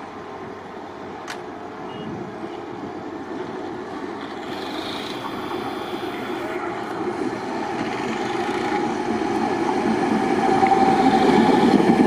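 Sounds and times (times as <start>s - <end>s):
tram rumbling on track: 0.0s - 12.0s.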